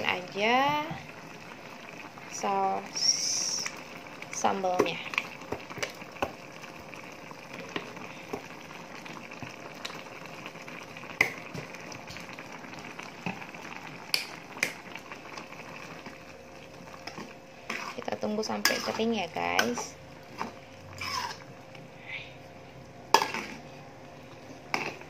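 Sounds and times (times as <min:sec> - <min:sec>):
sauce bubbling in a wok: 0:00.0 - 0:25.0.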